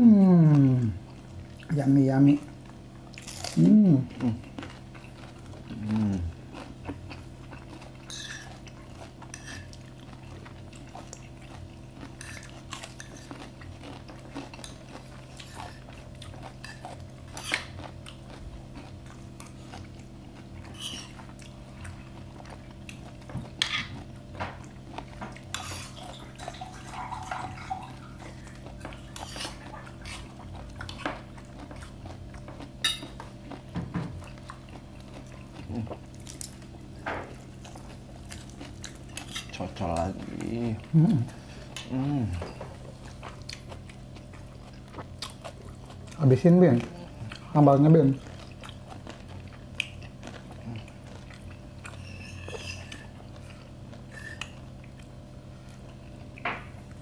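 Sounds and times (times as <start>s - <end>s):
steady low hum: 0.0s - 57.0s
person chewing: 2.4s - 57.0s.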